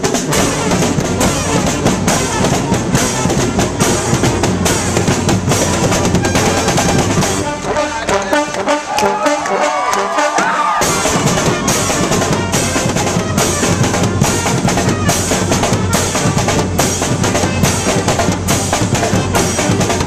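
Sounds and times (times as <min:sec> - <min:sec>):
brass band chord: 0:00.0 - 0:20.0
fast drum break: 0:00.0 - 0:20.0.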